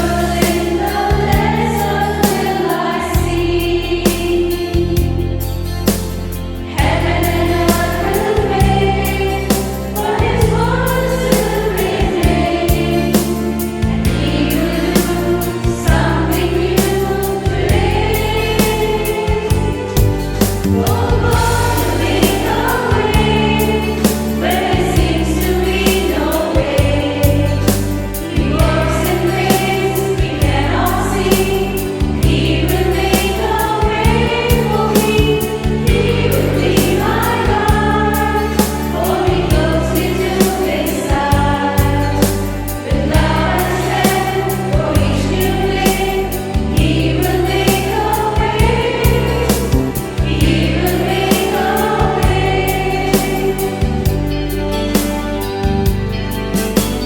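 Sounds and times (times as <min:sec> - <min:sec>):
choir singing a hymn: 0:00.0 - 0:56.8
instrumental accompaniment with beat: 0:00.0 - 0:57.0.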